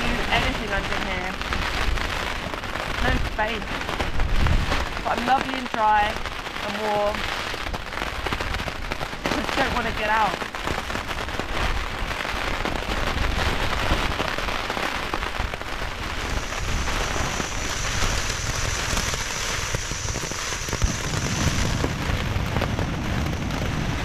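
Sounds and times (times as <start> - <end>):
low wind rumble: 0.0 - 24.0
rain pattering on a thin tarp: 0.0 - 24.0.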